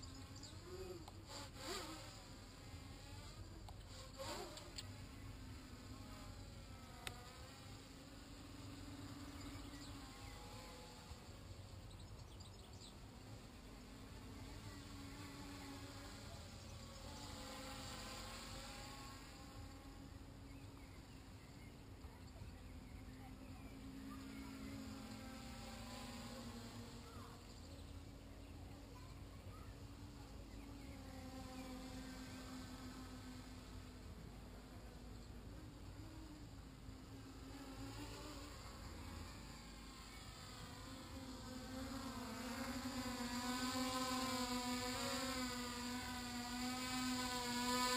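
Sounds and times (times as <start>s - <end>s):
small drone motors buzzing: 0.0s - 47.9s.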